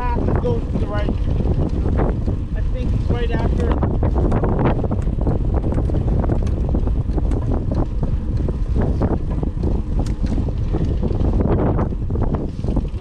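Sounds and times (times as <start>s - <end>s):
bike knocking and rattling: 0.0s - 13.0s
wind buffeting microphone: 0.0s - 13.0s.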